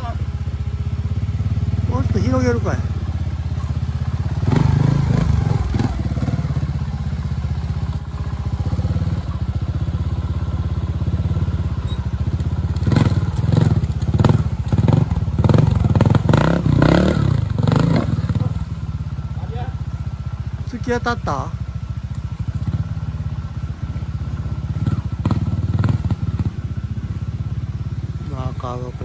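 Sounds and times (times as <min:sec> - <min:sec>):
motorcycle engine at low revs: 0:00.0 - 0:29.0
motorcycle throttle blips: 0:00.0 - 0:29.0.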